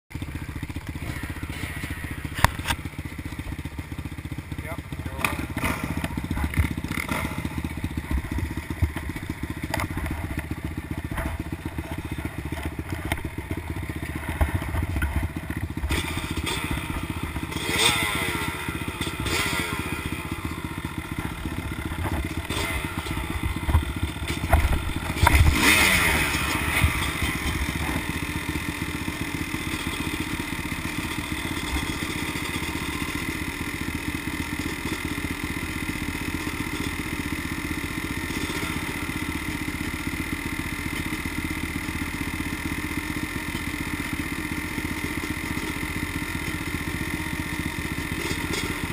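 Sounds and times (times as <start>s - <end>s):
dirt bike engines idling: 0.1s - 48.9s
dirt bikes revving: 0.1s - 48.9s.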